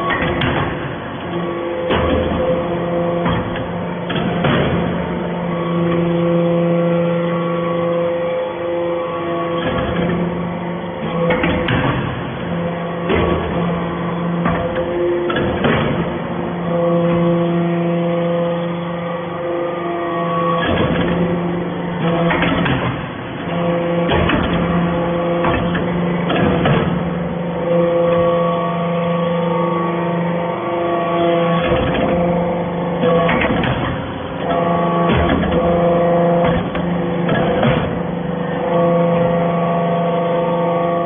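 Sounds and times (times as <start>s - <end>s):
metal clanks and knocks: 0.0s - 8.1s, 8.7s - 10.4s, 11.0s - 19.0s, 19.7s - 29.6s, 30.7s - 40.2s.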